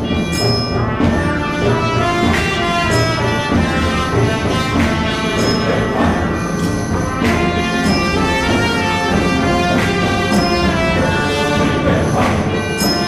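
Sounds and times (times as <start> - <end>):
orchestral music sustained chords: 0.0 - 13.0
percussion hits: 0.0 - 13.0.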